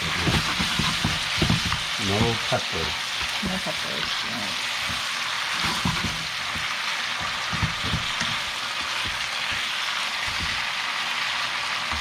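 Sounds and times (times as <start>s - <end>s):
stirring knocks: 0.0s - 10.8s
stir-fry sizzling in a hot pan: 0.0s - 12.0s.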